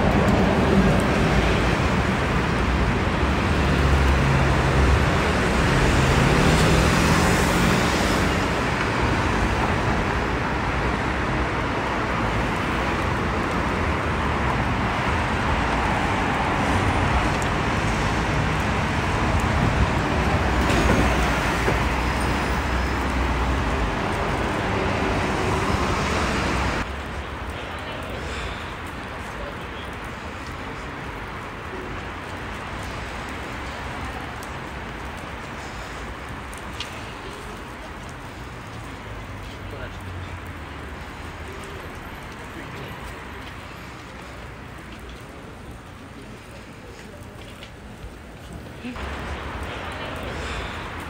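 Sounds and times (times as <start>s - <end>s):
cars and buses passing: 0.0s - 51.0s.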